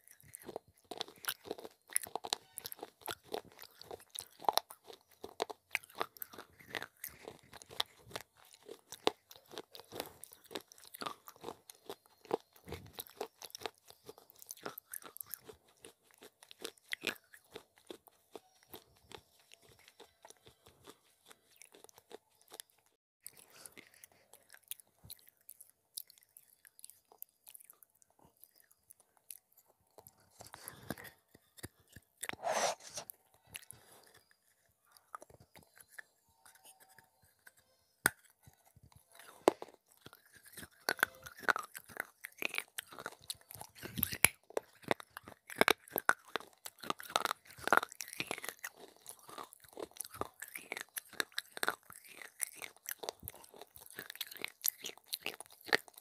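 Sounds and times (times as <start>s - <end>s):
person chewing and crunching clay: 0.0s - 56.0s.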